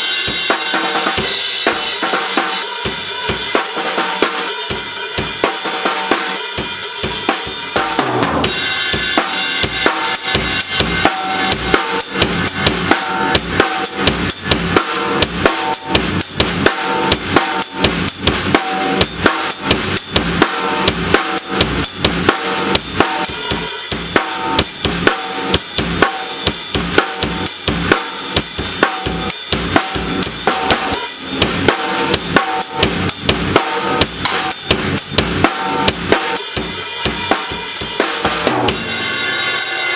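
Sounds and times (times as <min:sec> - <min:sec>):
drum kit fast beat: 0:00.0 - 0:39.9.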